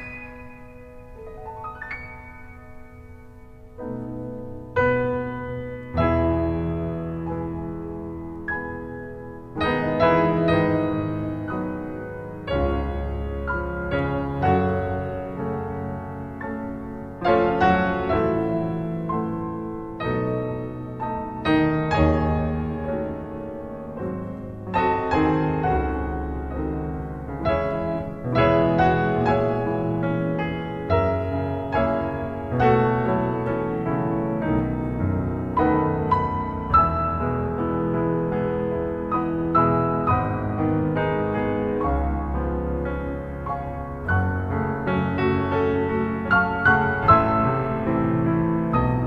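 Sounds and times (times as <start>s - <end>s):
gentle piano music: 0.0s - 49.0s.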